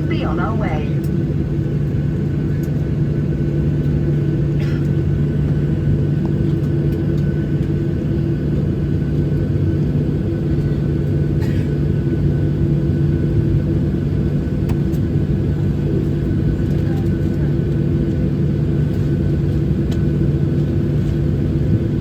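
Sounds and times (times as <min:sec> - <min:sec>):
jet engine drone in cabin: 0:00.0 - 0:22.0.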